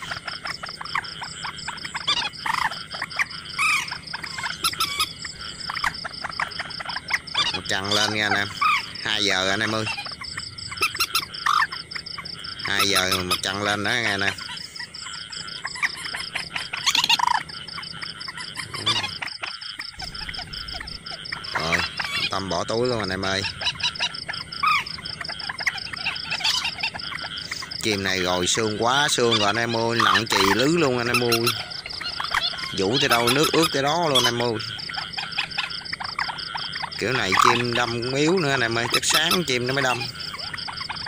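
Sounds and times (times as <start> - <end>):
frogs calling in chorus: 0.0 - 41.0
insect high-pitched pulsing: 0.0 - 41.0.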